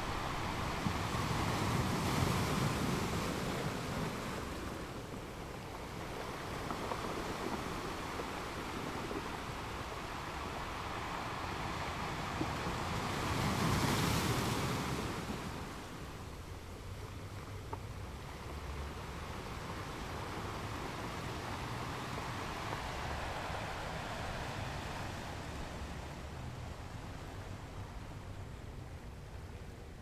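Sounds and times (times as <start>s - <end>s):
waves: 0.0s - 30.0s
wind buffeting microphone: 0.0s - 30.0s.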